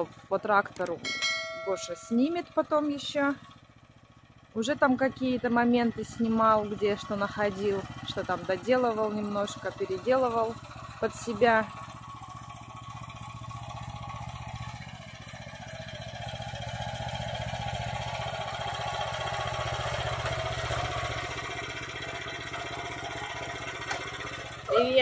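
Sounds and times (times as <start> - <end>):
small tractor engine running: 0.0 - 25.0.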